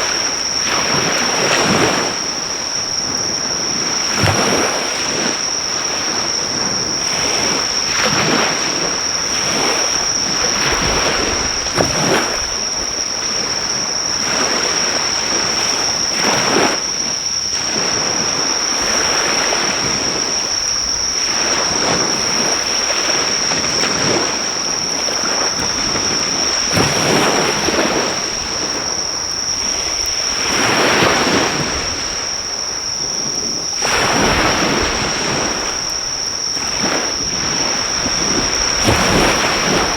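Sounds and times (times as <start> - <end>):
insects trilling: 0.0 - 39.9
surf washing onto shore: 0.0 - 39.9.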